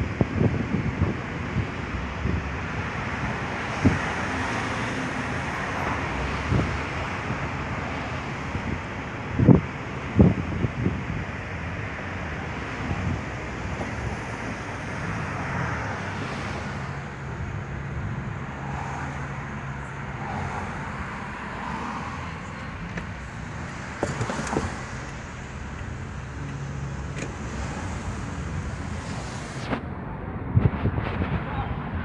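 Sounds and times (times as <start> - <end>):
car engine hum: 0.0 - 32.0
road noise: 0.0 - 32.0.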